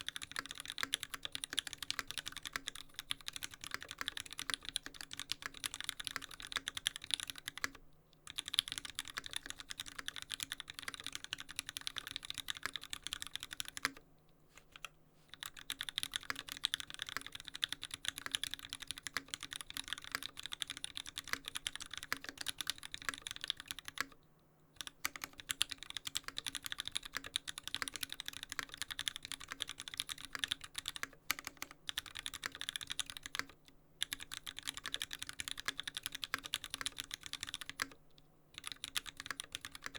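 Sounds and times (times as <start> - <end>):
fast typing on mechanical keyboard: 0.0 - 14.0, 14.8 - 24.2, 24.8 - 39.9.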